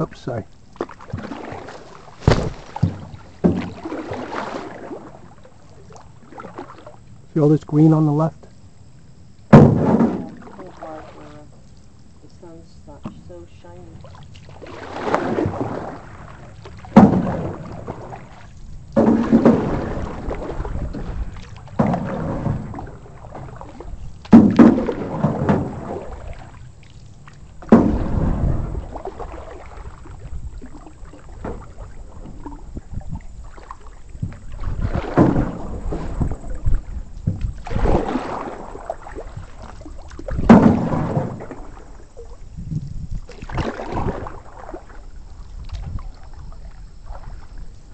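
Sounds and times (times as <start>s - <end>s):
paddle knocking: 0.0s - 8.5s, 9.5s - 47.9s
paddles splashing through water: 0.0s - 47.9s.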